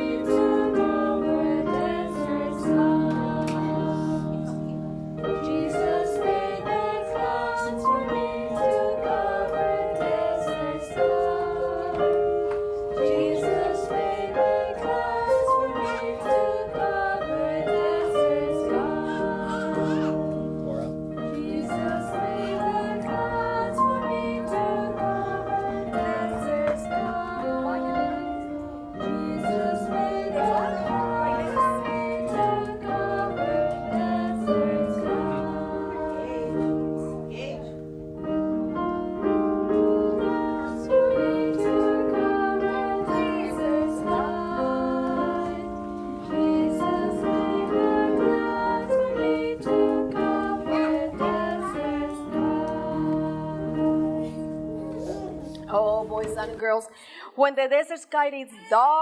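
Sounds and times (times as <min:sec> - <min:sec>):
children's song with accompaniment: 0:00.0 - 0:57.3.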